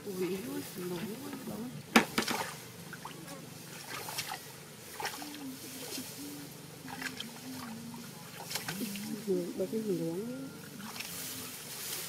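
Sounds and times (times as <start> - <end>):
faint low hum: 0.0 - 12.0
grass stalks rustling: 0.0 - 12.0.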